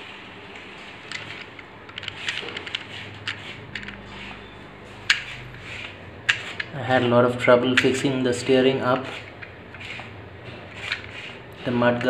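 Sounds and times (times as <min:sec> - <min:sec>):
faint low motor hum: 0:00.0 - 0:12.0.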